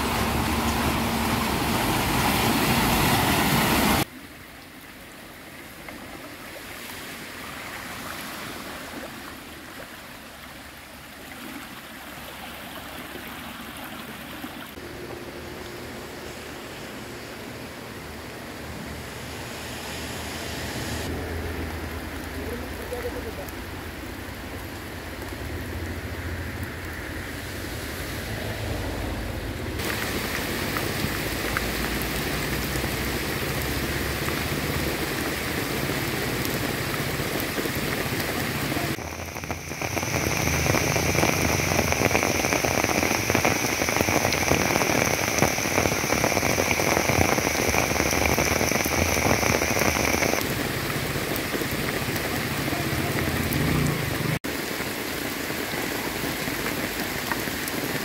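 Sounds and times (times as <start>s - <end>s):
heavy rain on water and foliage: 0.0s - 58.0s.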